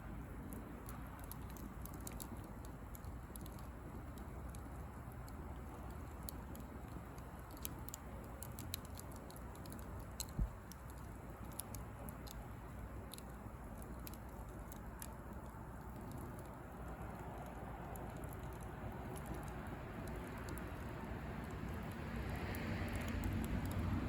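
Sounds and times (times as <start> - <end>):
bonfire crackling and popping: 0.0 - 24.0
faint rush of burning: 0.0 - 24.0.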